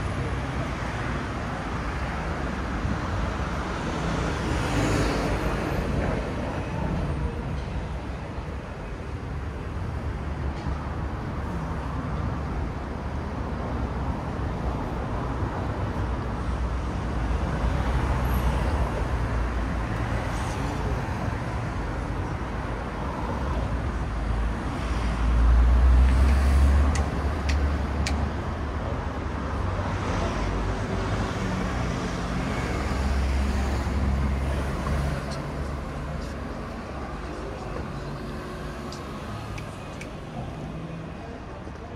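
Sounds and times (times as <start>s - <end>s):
rumble of passing cars: 0.0s - 41.9s.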